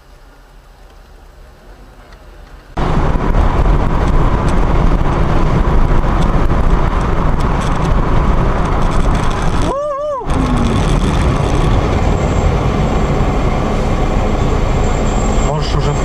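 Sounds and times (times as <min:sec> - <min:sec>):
vehicle driving on road: 0:00.0 - 0:16.0.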